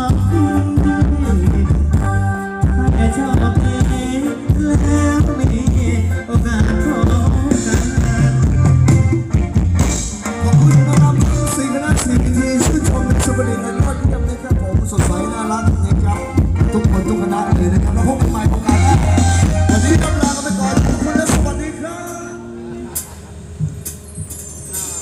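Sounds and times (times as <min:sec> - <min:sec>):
steady drum beat: 0:00.0 - 0:21.8
heavy bass line: 0:00.0 - 0:23.9
live band music: 0:00.0 - 0:25.0.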